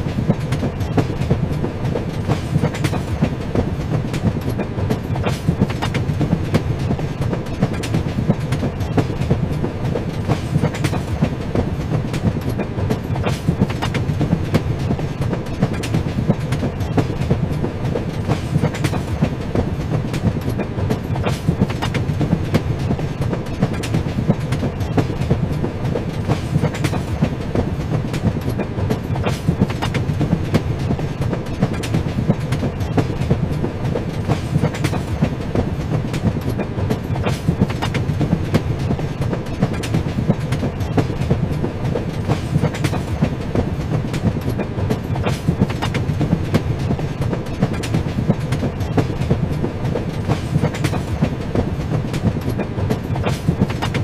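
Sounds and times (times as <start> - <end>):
train clattering over rails: 0.0 - 54.0.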